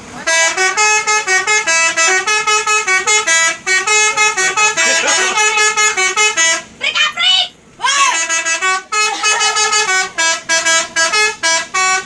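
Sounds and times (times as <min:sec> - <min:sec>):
musical bus air horn tune: 0:00.0 - 0:07.0, 0:07.9 - 0:12.0.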